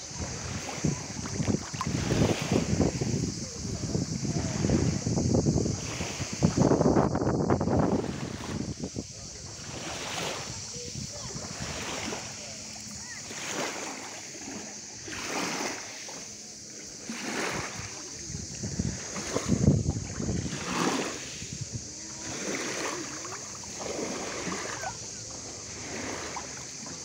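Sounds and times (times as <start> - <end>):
feet splashing in shallow water: 0.0 - 5.0, 7.8 - 27.0
water hissing: 0.0 - 27.0.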